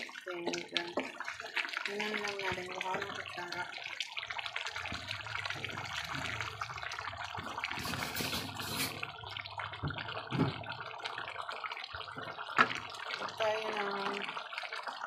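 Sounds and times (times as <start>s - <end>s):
stew bubbling and spluttering: 0.0s - 15.0s.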